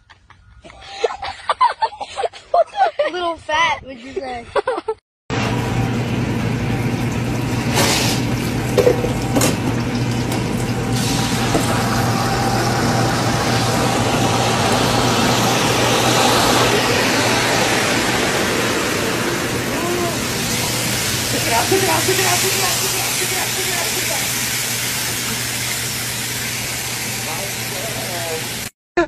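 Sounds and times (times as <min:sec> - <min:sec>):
deep fryer oil sizzling: 0:05.3 - 0:28.7.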